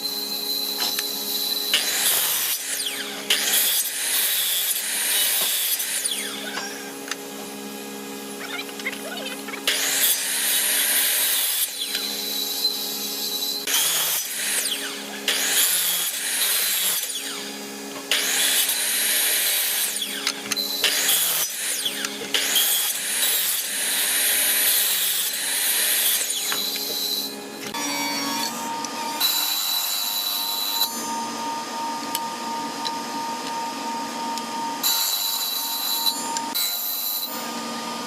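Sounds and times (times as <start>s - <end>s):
power tool cutting wood: 0.0s - 38.0s.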